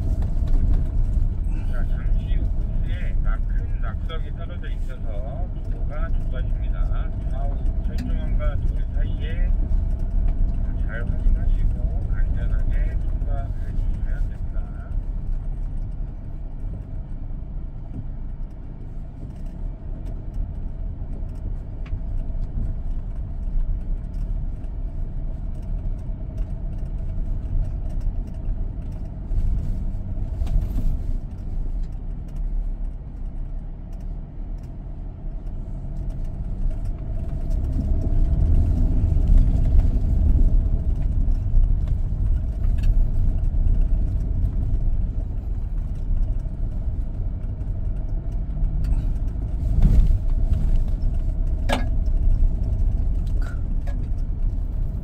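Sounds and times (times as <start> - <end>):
diesel engine low rumble: 0.0 - 55.0.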